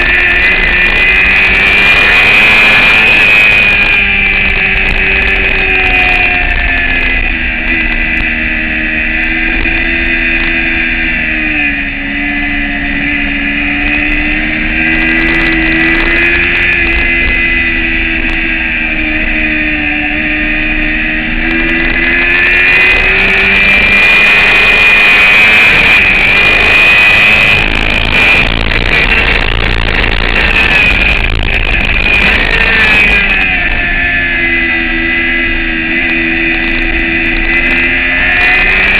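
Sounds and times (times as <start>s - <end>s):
loud rushing noise: 0.0s - 38.9s
motorcycle engine at speed: 0.0s - 38.9s.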